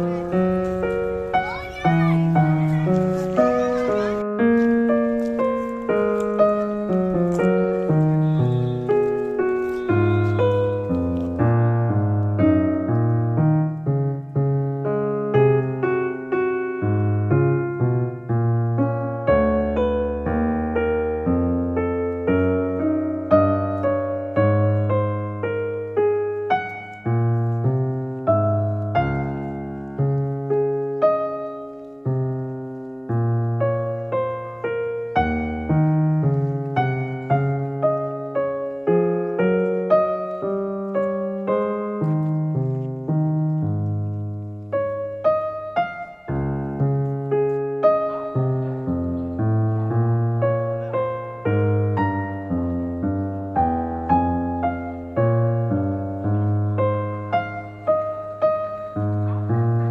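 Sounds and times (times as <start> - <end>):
solo piano music: 0.0 - 59.9.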